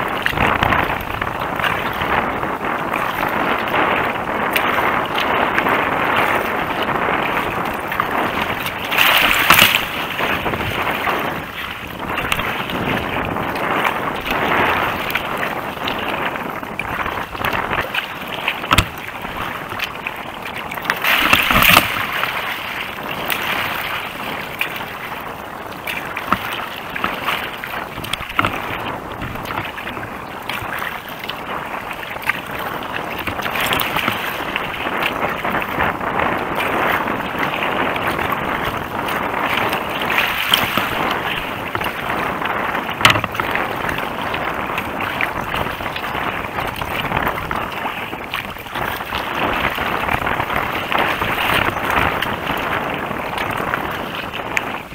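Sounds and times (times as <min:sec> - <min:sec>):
water slapping against hull: 0:00.0 - 0:54.9
wind buffeting microphone: 0:00.0 - 0:54.9.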